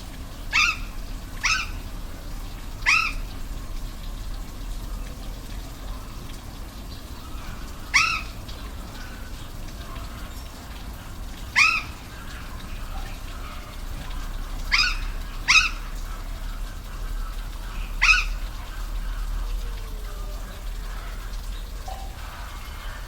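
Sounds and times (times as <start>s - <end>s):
arching animal calls: 0.0s - 23.0s
rushing falling water: 0.0s - 23.0s.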